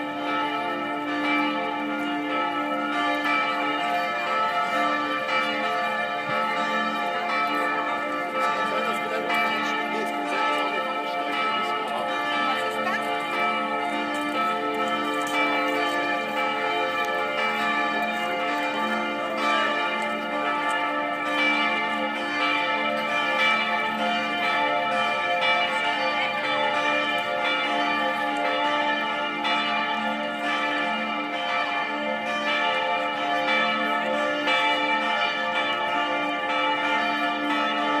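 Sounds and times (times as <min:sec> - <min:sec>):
church bells pealing: 0:00.0 - 0:38.0.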